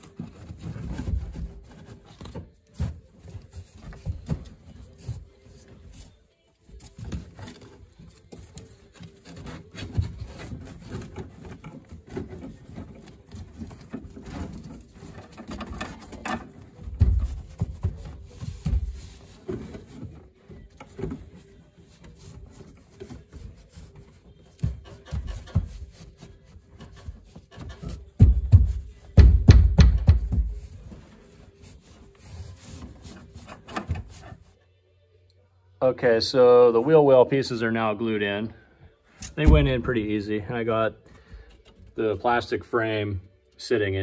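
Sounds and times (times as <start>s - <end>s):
carpet rustling: 0.0s - 34.6s, 38.9s - 42.0s.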